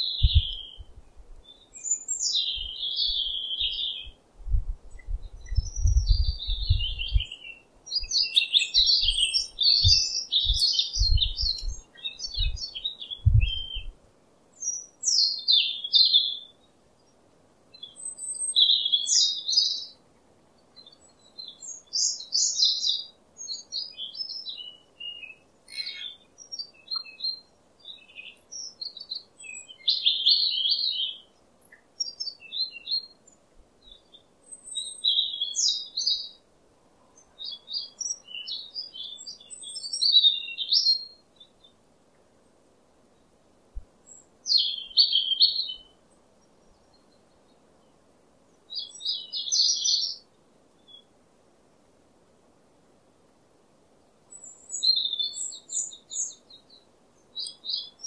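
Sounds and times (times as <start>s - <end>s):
small birds twittering: 0.0s - 42.3s, 44.0s - 51.1s, 54.0s - 58.0s.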